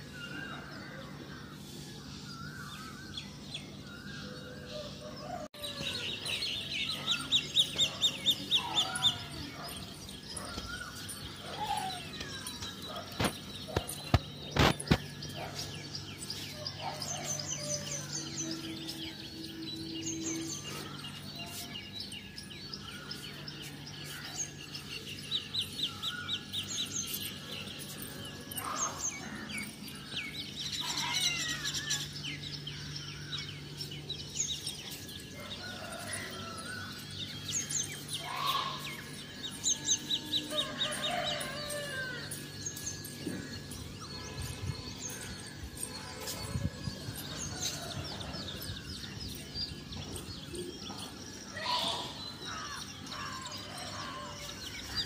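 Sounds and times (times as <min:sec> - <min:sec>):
birds chirping and trilling: 0:00.0 - 0:55.0.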